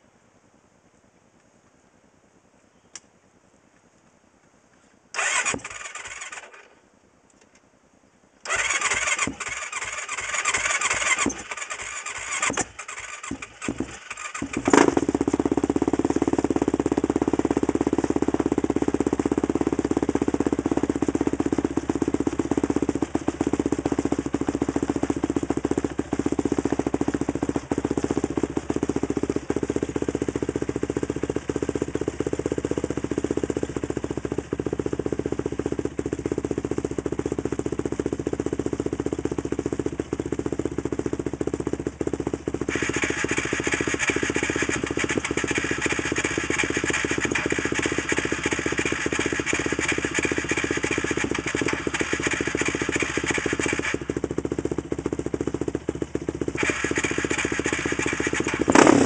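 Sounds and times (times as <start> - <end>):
engine idling: 4.8 - 59.0
quad engine cold starting: 5.1 - 6.8, 8.4 - 59.0.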